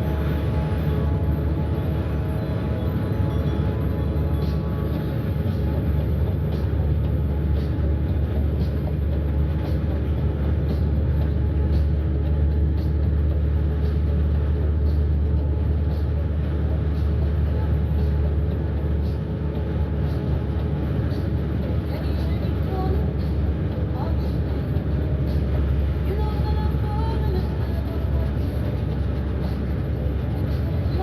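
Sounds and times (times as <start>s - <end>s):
bus engine and road rumble: 0.0s - 31.0s.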